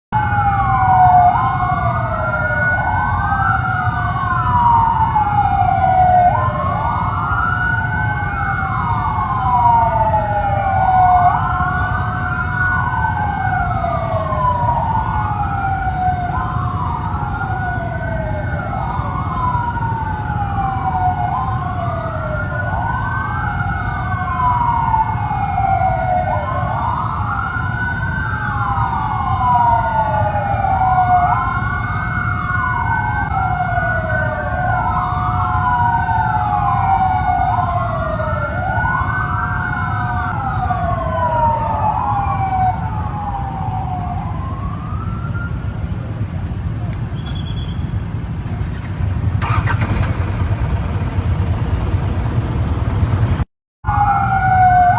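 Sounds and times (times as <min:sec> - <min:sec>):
warning siren wailing: 0:00.2 - 0:48.2, 0:49.2 - 0:54.9.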